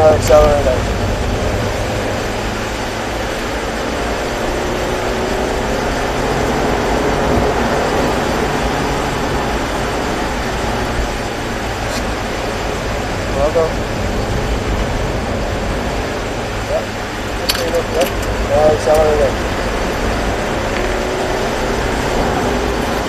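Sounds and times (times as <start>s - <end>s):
car engine accelerating: 0.0s - 23.0s
tyre and road noise: 0.0s - 23.0s.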